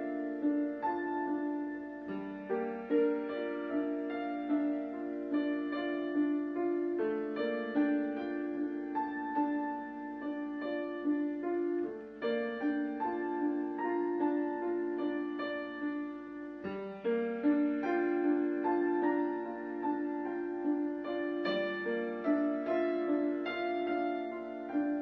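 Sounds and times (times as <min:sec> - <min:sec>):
gentle solo piano music: 0:00.0 - 0:25.0.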